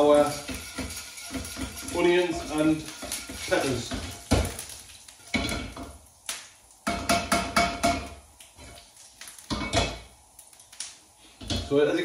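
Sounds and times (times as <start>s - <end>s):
seeds popping in hot oil: 0.0s - 11.8s.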